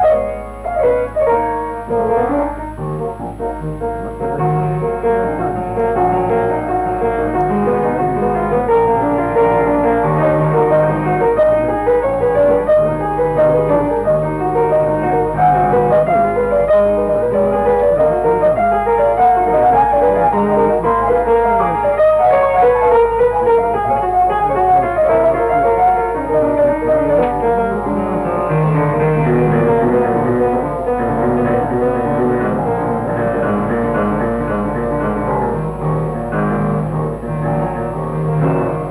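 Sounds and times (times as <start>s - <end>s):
lively piano music: 0.0s - 38.9s.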